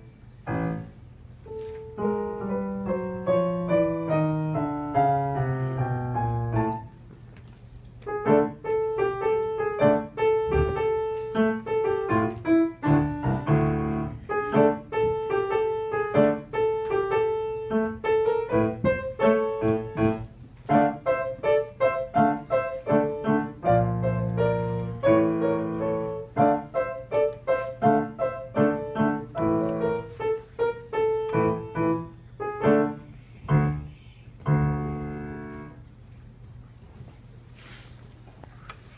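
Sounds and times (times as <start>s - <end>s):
grand piano playing: 0.0s - 7.0s, 8.1s - 35.8s.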